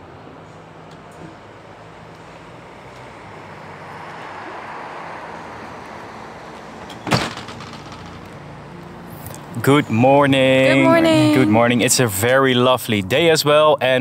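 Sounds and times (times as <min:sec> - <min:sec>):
vehicle passing: 0:00.2 - 0:12.4.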